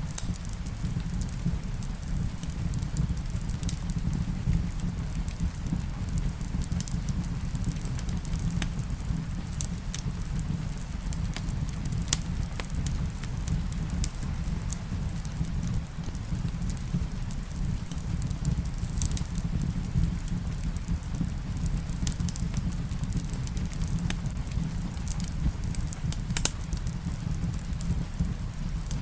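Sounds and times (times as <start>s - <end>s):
rain: 0.0s - 29.0s
wood fire crackling: 0.0s - 29.0s.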